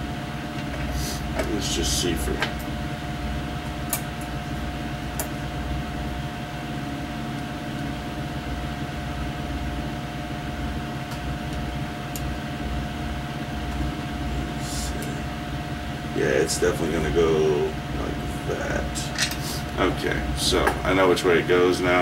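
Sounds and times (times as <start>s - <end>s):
faint steady whine: 0.0s - 22.0s
fan humming: 0.0s - 22.0s.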